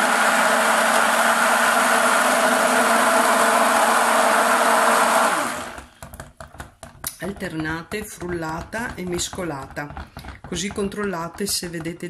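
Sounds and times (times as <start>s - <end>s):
immersion blender whirring: 0.0s - 6.3s, 7.2s - 10.9s.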